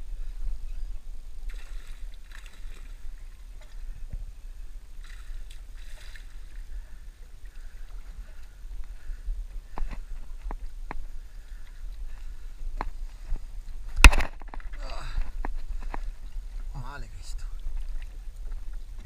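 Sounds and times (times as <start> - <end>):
water lapping against boat hull: 0.0 - 19.0
water splashes: 0.0 - 19.0
wind rumble on microphone: 0.0 - 19.0.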